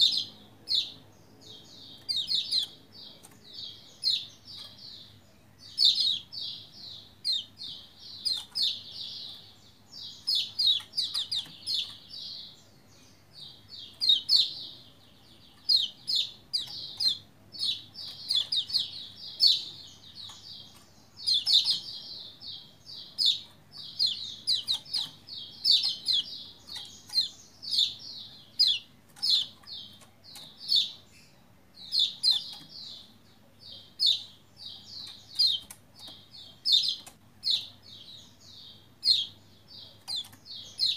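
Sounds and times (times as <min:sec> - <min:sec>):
bird singing high chirps: 0:00.0 - 0:40.9.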